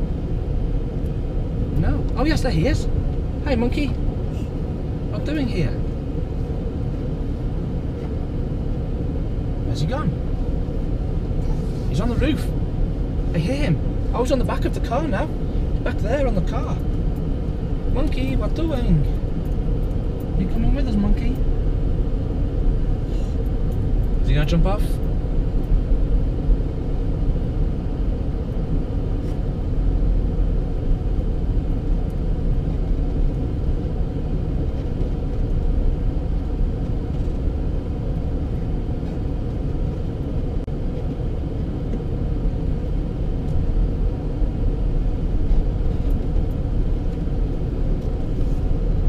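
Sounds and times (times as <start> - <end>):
engine and tyre rumble: 0.0 - 49.0.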